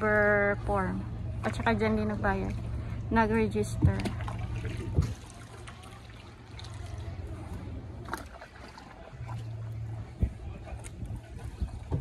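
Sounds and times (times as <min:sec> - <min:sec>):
water lapping around boat: 0:00.0 - 0:12.0.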